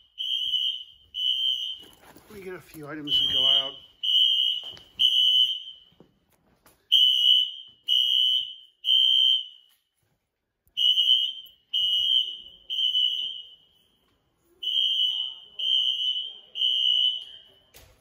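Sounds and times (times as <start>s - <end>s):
fire alarm pulsing tone: 0.0s - 6.1s, 6.9s - 9.9s, 10.7s - 18.0s.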